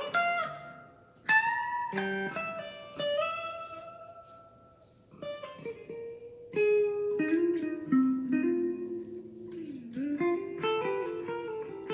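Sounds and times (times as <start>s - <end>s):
plucked guitar notes: 0.0s - 11.9s.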